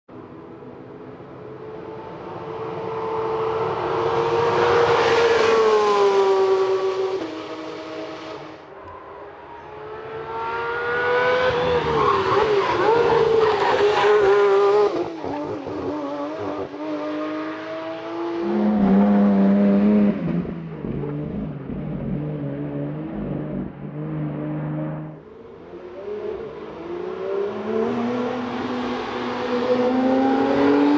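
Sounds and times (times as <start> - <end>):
race car engine at high revs: 1.5 - 8.6, 9.3 - 30.9.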